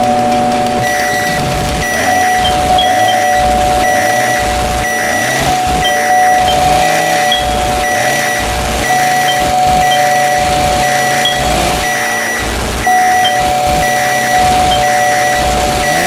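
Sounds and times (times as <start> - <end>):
engine noise: 0.0 - 16.0
short beeps: 0.0 - 16.0
song: 0.0 - 16.0
steady high tone: 0.0 - 16.0.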